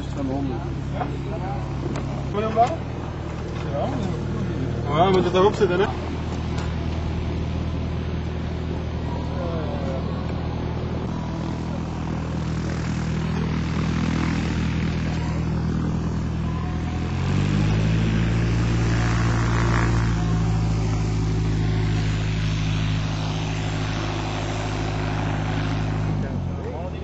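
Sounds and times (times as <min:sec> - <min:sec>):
biplane piston engine running: 0:00.0 - 0:27.0.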